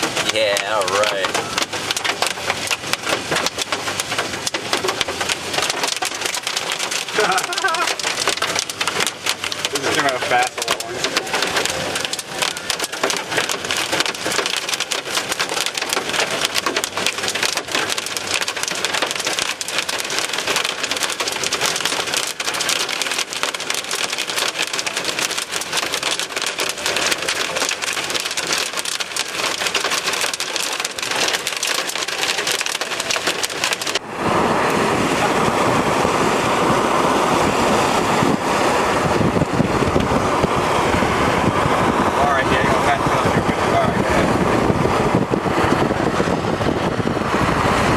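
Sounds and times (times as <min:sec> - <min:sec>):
heavy rain on a vehicle: 0:00.0 - 0:47.9.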